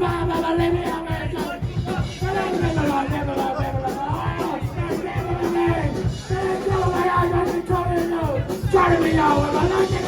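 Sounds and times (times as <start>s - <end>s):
fast dense drumming: 0.0s - 10.0s
live band playing: 0.0s - 10.0s.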